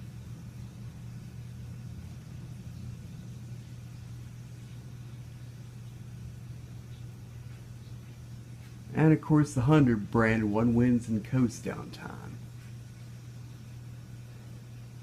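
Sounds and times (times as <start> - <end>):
box fans spinning down: 0.0 - 15.0.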